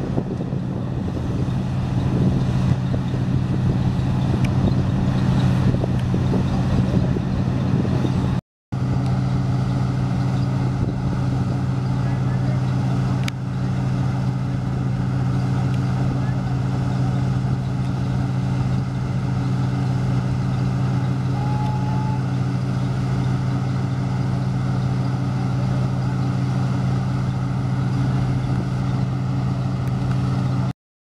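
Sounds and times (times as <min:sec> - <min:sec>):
combine harvester engine drone: 0:00.0 - 0:30.7.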